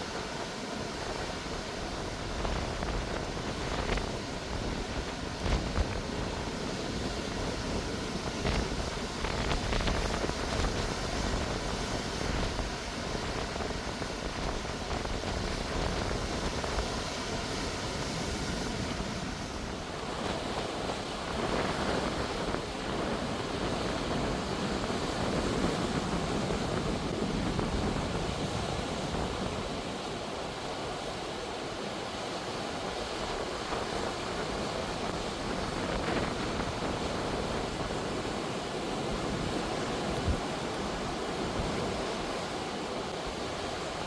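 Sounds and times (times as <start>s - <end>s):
ocean surf breaking: 0.0s - 44.0s
wind buffeting microphone: 1.0s - 30.0s, 33.4s - 42.3s.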